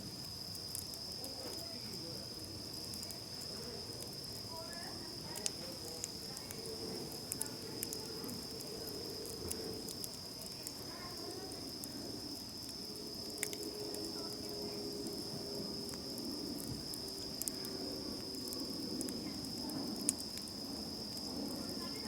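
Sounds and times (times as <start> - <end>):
campfire crackling: 0.0 - 22.0
insects chirring: 0.0 - 22.0.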